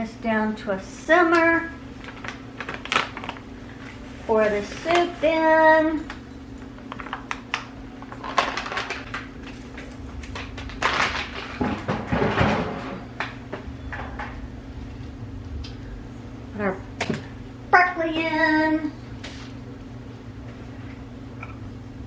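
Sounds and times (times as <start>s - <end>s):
low hum: 1.6s - 22.0s.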